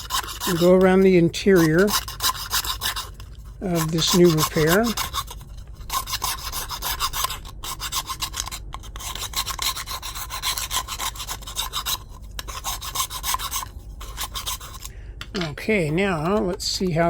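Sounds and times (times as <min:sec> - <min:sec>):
file rasping on plastic: 0:00.0 - 0:14.9.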